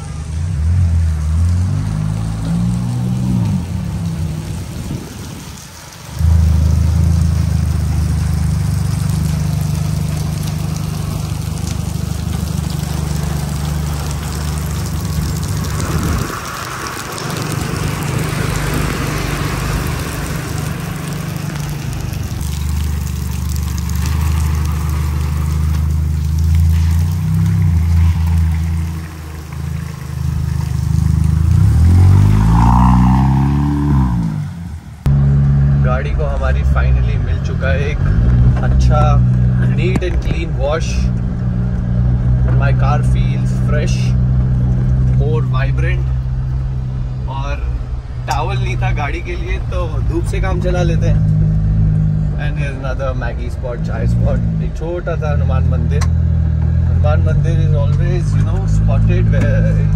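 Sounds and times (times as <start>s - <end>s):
tyres hissing on wet road: 0.0s - 35.4s, 36.0s - 59.9s
car engine running: 6.2s - 59.9s.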